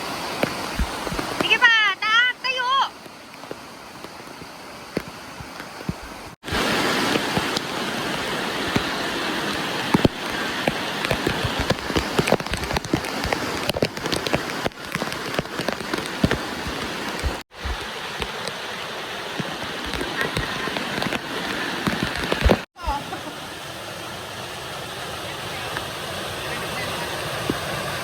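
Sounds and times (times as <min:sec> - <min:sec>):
water splashing and dripping: 0:00.0 - 0:28.0.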